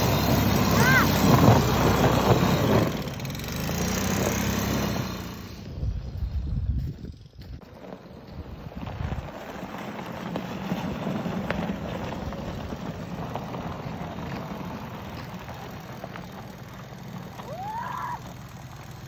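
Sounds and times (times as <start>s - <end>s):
golf cart tyres on packed snow: 0.0s - 19.0s.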